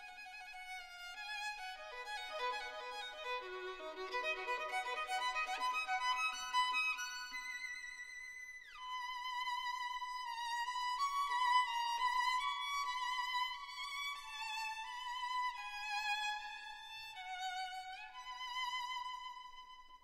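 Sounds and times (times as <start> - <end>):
slow violin-like solo melody: 0.0 - 20.0.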